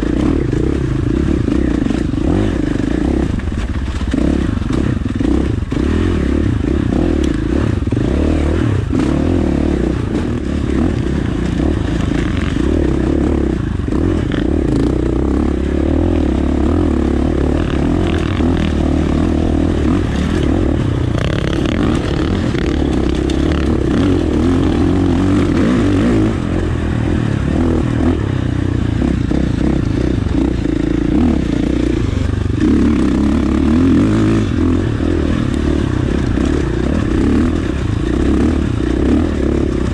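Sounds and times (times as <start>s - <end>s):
dirt bike engine: 0.0s - 39.9s.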